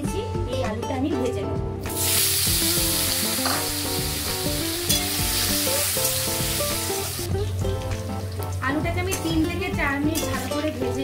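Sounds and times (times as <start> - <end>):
potatoes sizzling in hot oil: 1.9 - 11.0.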